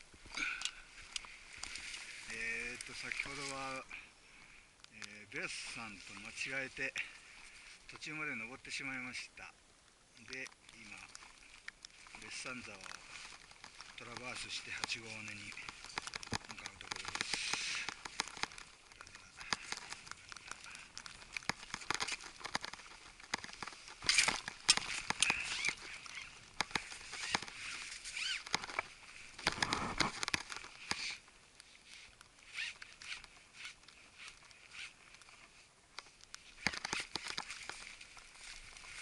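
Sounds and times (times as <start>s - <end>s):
clothing and gear rustling: 0.0s - 8.3s, 10.5s - 39.0s.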